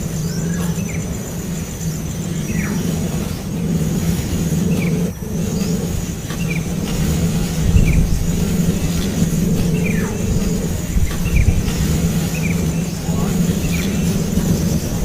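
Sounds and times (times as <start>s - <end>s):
baby bird peeping: 0.0s - 15.0s
steady low hum: 0.0s - 15.0s.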